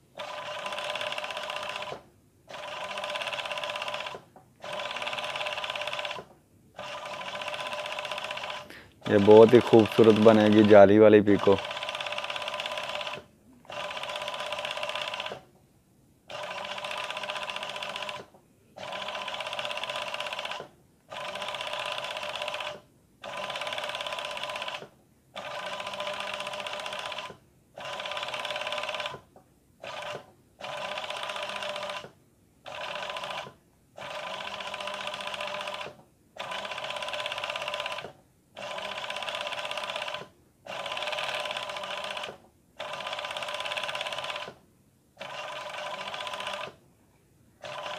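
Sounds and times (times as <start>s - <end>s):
sewing machine stitching: 0.2s - 15.4s, 16.3s - 29.2s, 29.8s - 44.6s, 45.2s - 46.8s, 47.6s - 47.9s.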